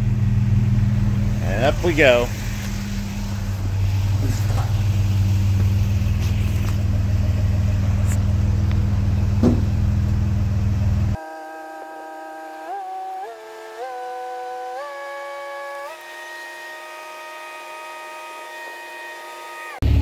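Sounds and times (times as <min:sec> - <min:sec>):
forklift engine running: 0:00.0 - 0:20.0.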